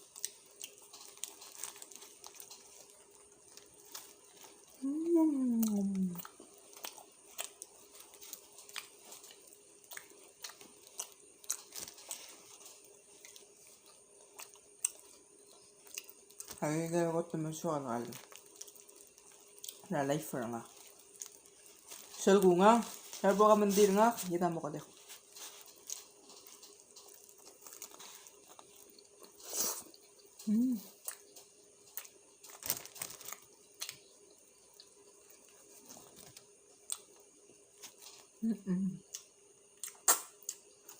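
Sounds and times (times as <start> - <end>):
person chewing food: 0.0 - 4.8, 5.4 - 16.6, 18.1 - 19.9, 20.6 - 22.2, 24.9 - 38.4, 39.0 - 40.9
person eating crackles and crinkles: 0.0 - 40.9.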